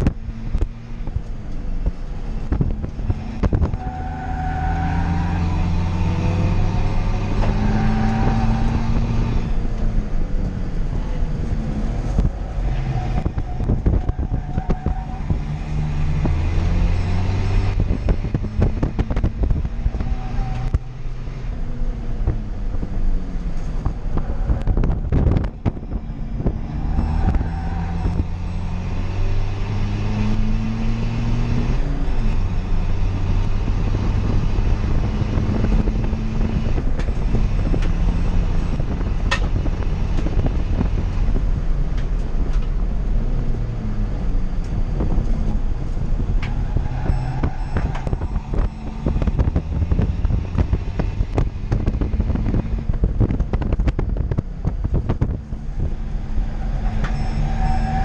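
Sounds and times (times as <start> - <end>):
diesel engine accelerating: 0.0 - 58.0.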